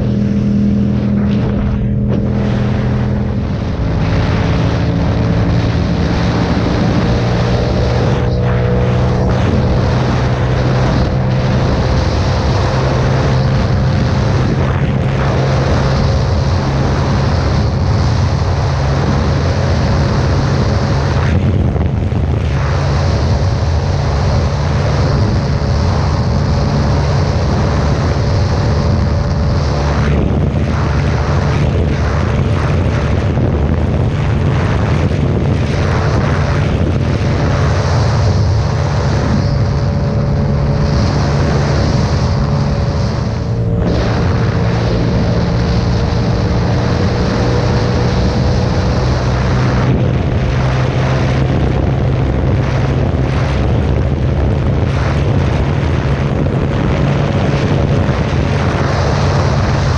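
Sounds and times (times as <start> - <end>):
motorcycle engine at high revs: 0.0 - 59.9
wind rush on microphone: 0.0 - 59.9.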